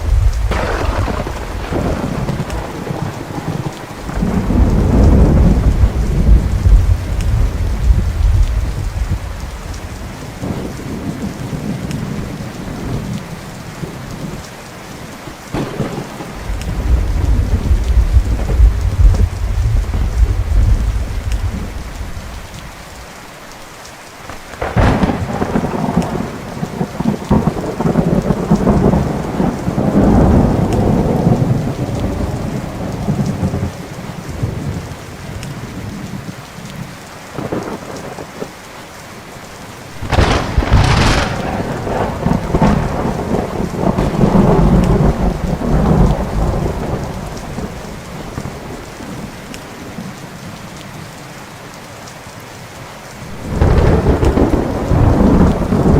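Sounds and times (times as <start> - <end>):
thunder rumbling: 0.0 - 14.4, 15.5 - 23.0, 24.3 - 36.0, 39.9 - 50.6, 53.3 - 55.9
steady rain: 0.0 - 55.9.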